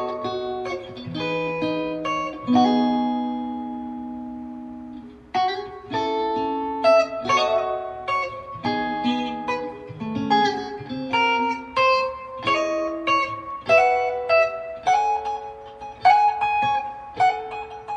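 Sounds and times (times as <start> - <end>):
guitar chord and plucked notes: 0.0 - 17.9.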